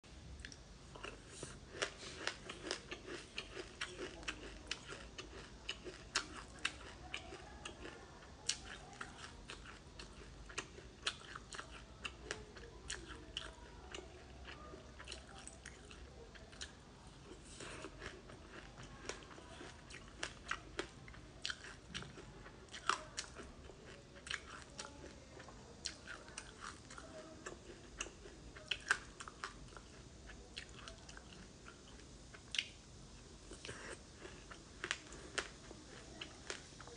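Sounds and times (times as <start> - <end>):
chewing crunchy seeds: 0.4 - 36.9.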